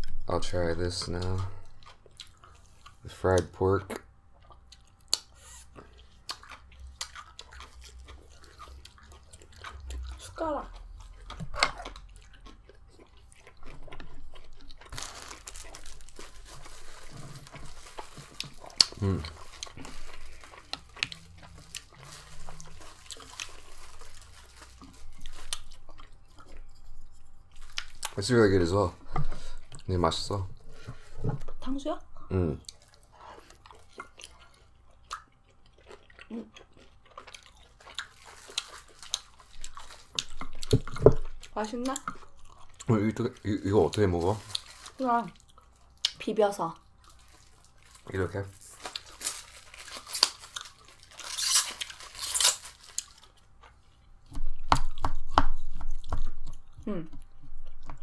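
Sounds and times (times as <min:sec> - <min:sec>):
crunching and chewing fried pork: 0:00.0 - 0:58.0.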